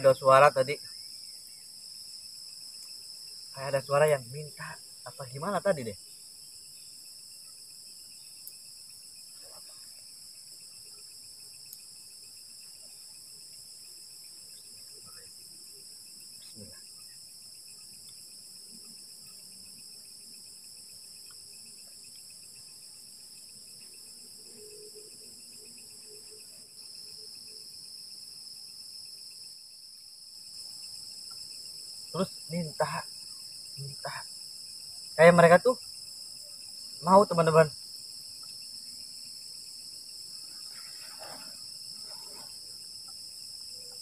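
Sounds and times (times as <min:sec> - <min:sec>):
night insects chirring: 0:00.0 - 0:44.0
pulsing insect trill: 0:00.0 - 0:44.0.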